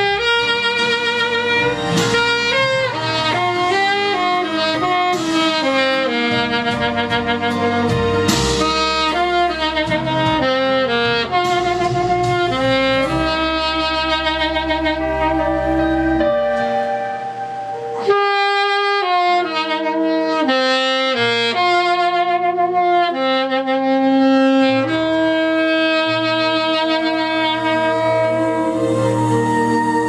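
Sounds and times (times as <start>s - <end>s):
backing accompaniment with bass: 0.0s - 30.0s
saxophone playing slow melody: 0.0s - 30.0s.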